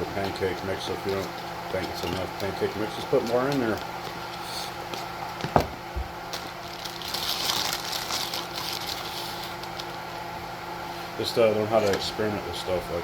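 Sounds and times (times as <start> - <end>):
steady appliance hum: 0.0 - 13.0.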